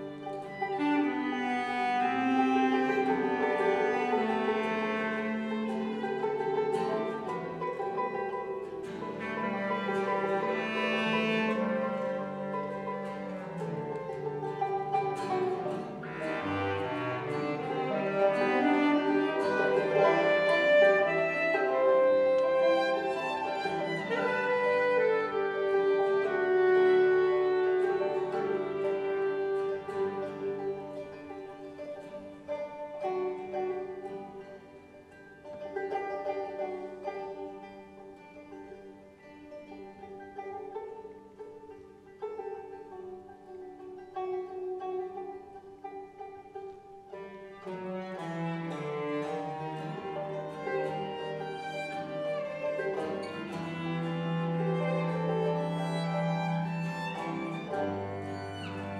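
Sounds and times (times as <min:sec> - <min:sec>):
acoustic guitar: 0:00.0 - 0:58.9
banjo picking: 0:00.0 - 0:58.9
bass clarinet: 0:00.0 - 0:58.9
violin: 0:00.0 - 0:58.9.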